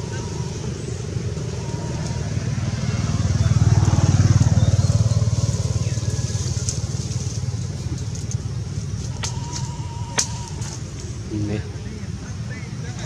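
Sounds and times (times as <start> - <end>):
engine pulsing rumble: 0.0 - 13.0.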